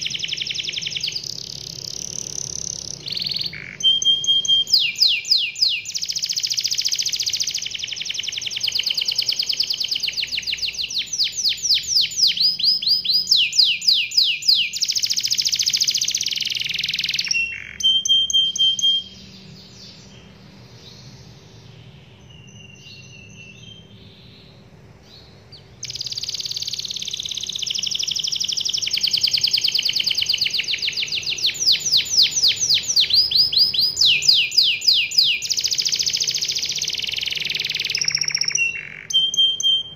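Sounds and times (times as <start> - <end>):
canary singing rolling trills: 0.0 - 39.9
faint bird chirps: 0.0 - 39.9.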